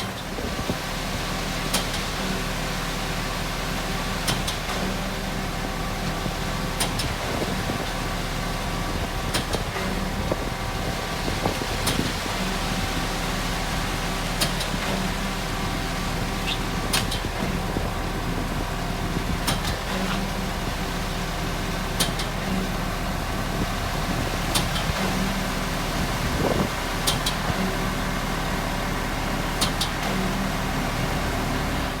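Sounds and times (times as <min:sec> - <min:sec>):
concrete mixer truck running: 0:00.0 - 0:32.0.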